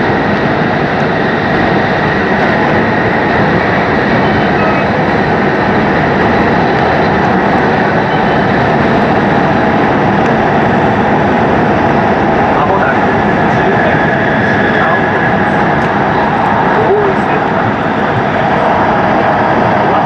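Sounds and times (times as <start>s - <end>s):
moving train running noise: 0.0s - 20.0s.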